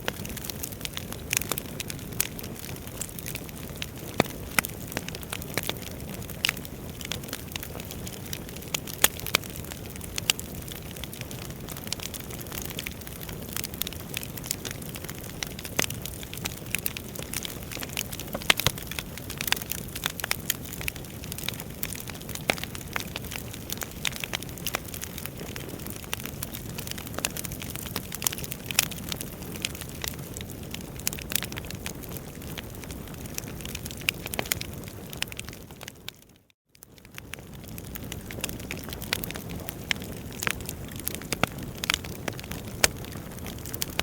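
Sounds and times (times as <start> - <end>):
burning logs crackling and popping: 0.0 - 44.0.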